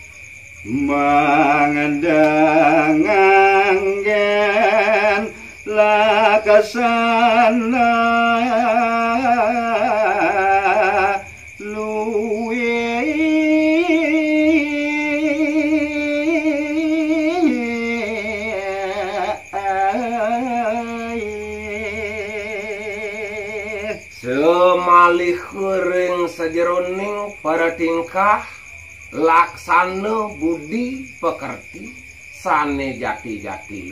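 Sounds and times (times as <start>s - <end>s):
man singing unaccompanied: 0.6s - 33.9s.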